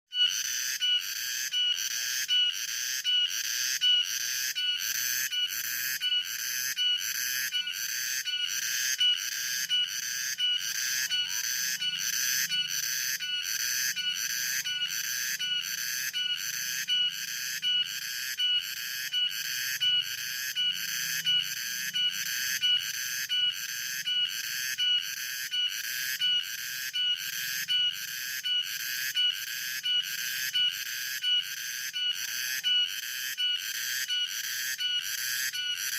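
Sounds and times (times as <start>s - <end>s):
cicadas buzzing: 0.1s - 35.9s.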